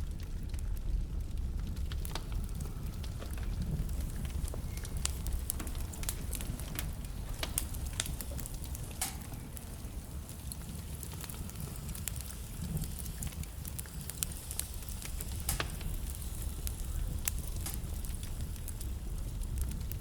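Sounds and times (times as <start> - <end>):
burning wood crackling and popping: 0.0 - 20.0
fire flames rumbling: 0.0 - 20.0.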